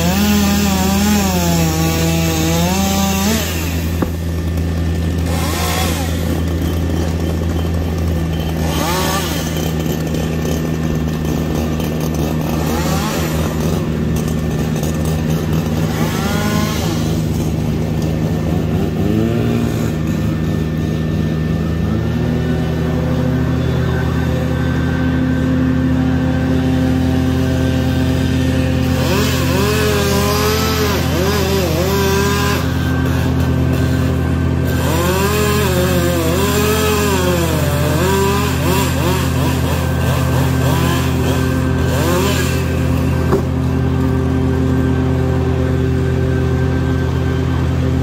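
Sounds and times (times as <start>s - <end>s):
chainsaw revving while cutting: 0.0s - 48.0s
engine running steadily: 0.0s - 48.0s.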